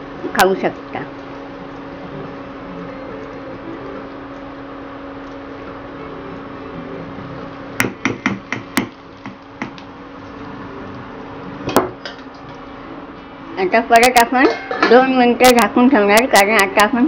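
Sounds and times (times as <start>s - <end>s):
induction cooktop humming: 0.0s - 17.0s.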